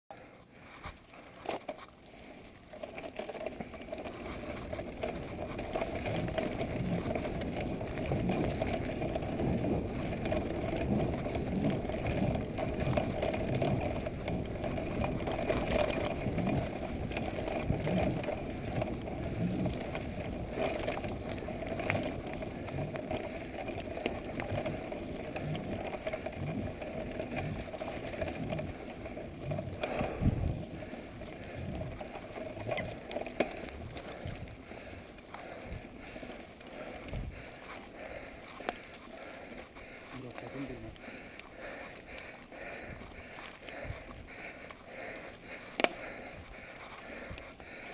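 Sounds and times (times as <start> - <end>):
mountain bike rattling: 0.4 - 47.9.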